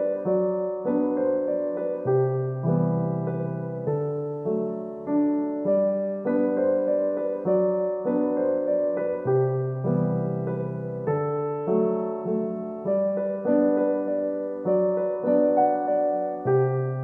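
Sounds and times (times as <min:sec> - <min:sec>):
gentle piano tune: 0:00.0 - 0:17.0.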